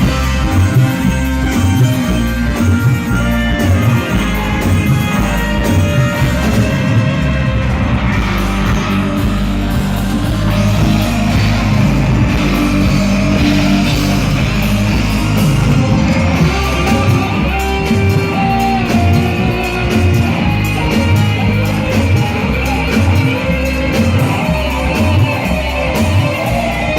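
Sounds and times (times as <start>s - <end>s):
loud bass-heavy music over pa: 0.0s - 26.9s.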